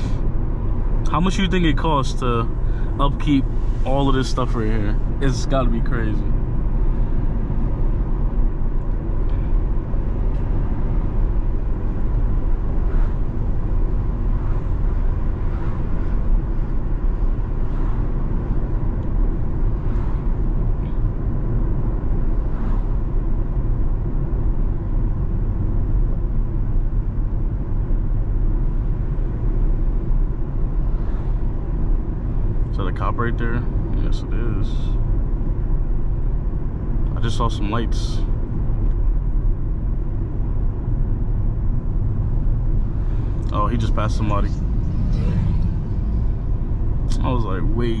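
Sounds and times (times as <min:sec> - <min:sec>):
car engine and road drone: 0:00.0 - 0:48.0.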